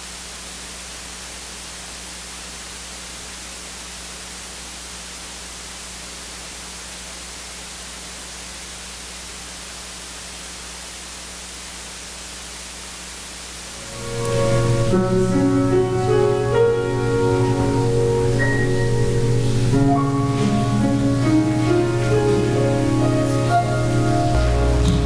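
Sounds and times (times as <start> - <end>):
low electrical hum: 0.0 - 25.0
steady hiss: 0.0 - 25.0.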